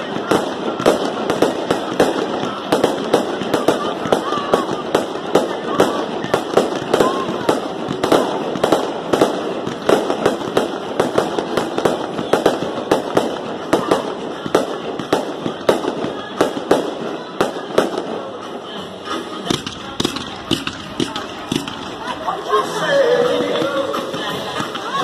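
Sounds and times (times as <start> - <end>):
fireworks bangs and pops: 0.0 - 25.0.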